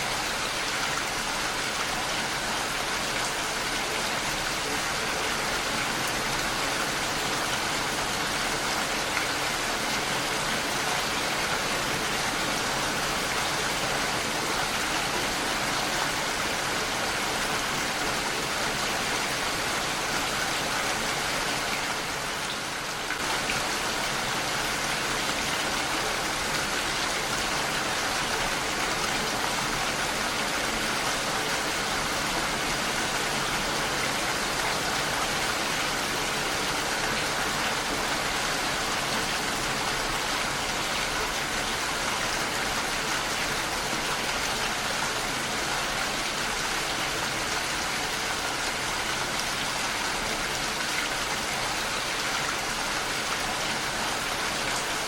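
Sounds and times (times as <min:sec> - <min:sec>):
heavy rain against a window: 0:00.0 - 0:55.0.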